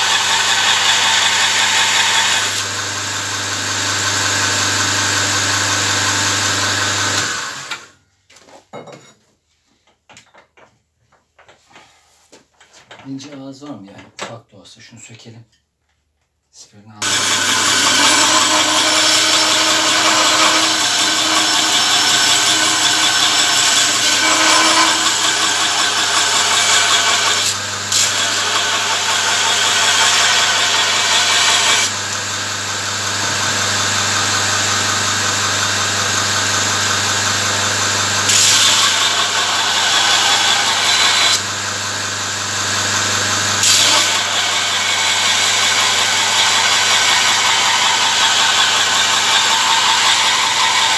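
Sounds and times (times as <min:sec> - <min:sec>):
belt grinder motor hum: 0:00.0 - 0:07.9, 0:17.0 - 0:50.9.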